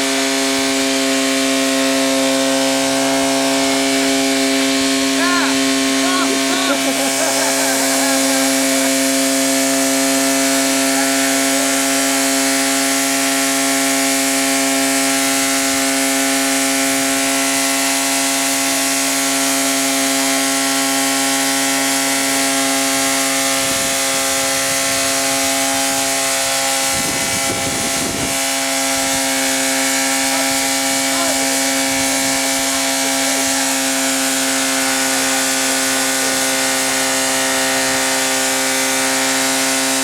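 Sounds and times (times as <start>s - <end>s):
car engine running at steady revs: 0.0s - 40.0s.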